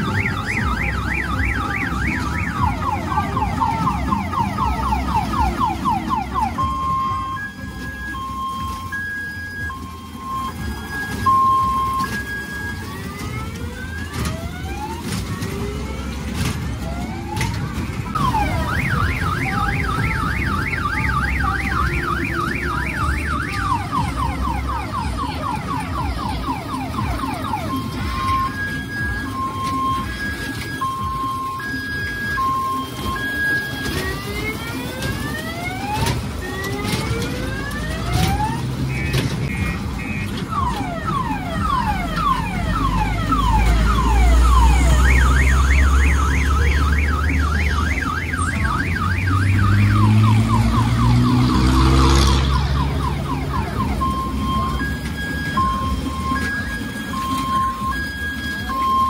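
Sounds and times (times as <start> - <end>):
warbling yelp siren: 0.0 - 59.0.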